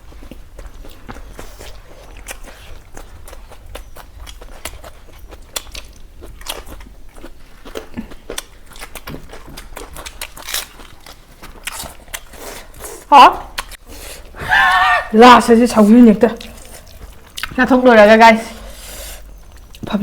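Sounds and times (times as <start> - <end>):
chewing crunchy food: 0.0 - 14.4, 15.8 - 18.0, 18.6 - 20.0.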